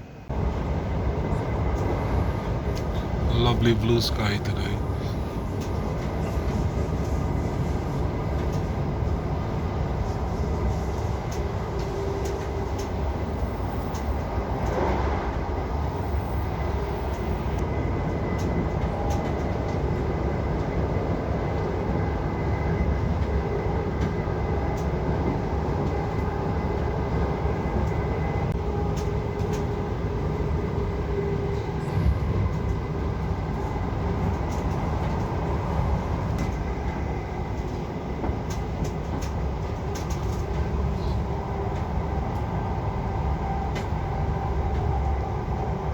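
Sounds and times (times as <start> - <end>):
train wheels rumbling on track: 0.0 - 45.9.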